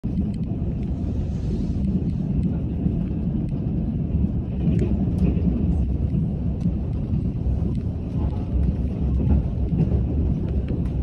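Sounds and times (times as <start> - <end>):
train rumbling: 0.0 - 11.0
faint clicks and rattles: 1.8 - 11.0.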